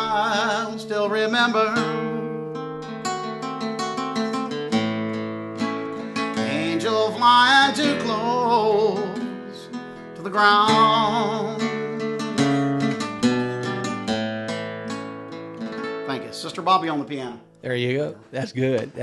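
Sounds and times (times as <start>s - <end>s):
fingerstyle nylon-string guitar: 0.0s - 17.6s.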